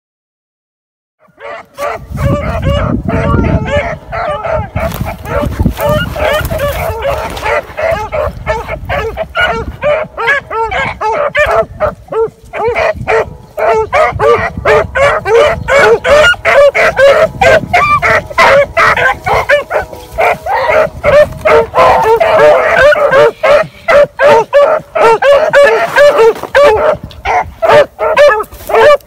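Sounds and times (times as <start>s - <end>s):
dogs baying: 1.2s - 29.0s.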